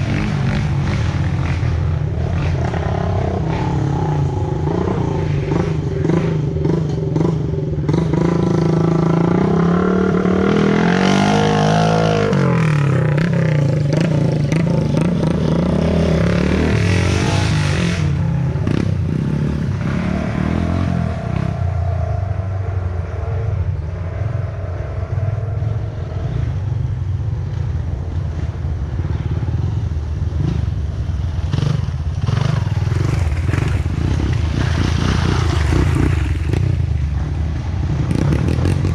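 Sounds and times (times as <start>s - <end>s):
trail motorcycle engines revving: 0.0s - 38.9s.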